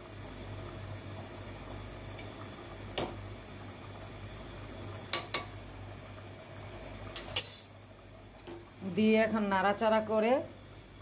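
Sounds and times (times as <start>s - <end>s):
pot simmering: 0.0s - 11.0s.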